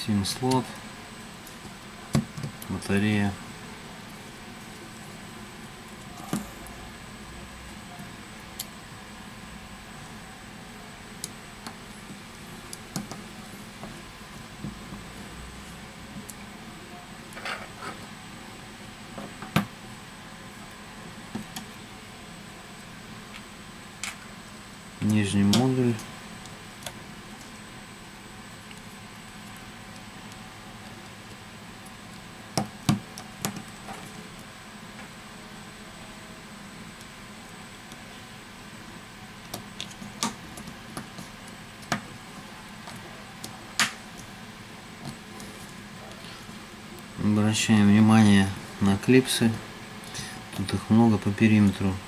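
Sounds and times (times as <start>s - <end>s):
room noise hiss: 0.0s - 52.0s.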